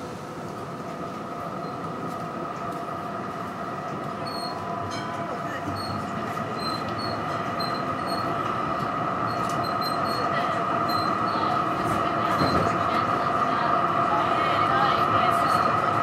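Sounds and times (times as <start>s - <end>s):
tram wheels and motors running: 0.0s - 16.0s.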